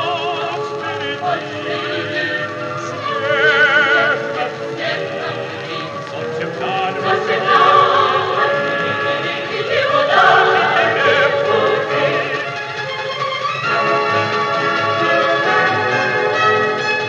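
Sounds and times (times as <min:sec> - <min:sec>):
light orchestra with choir: 0:00.0 - 0:17.0.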